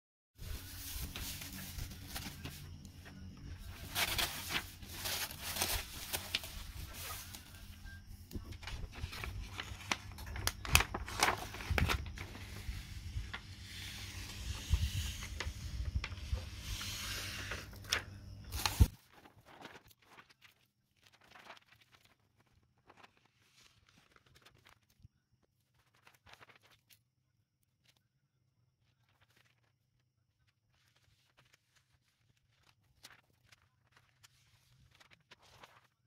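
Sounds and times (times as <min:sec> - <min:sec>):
plastic sheets rustling and crinkling: 0:00.4 - 0:27.0, 0:28.8 - 0:29.8, 0:30.4 - 0:36.0.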